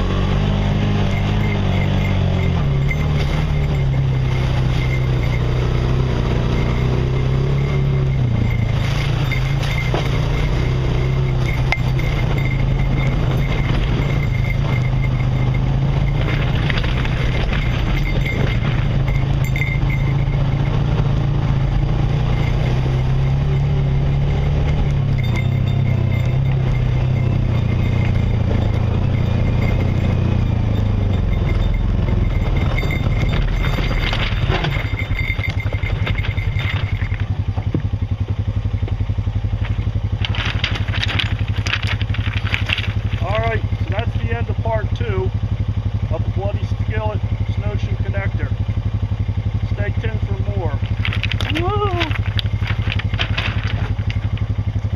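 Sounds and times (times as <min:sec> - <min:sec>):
tyres crackling over rock and gravel: 0:00.0 - 0:44.7, 0:49.7 - 0:54.9
off-road vehicle engine running: 0:00.0 - 0:54.9.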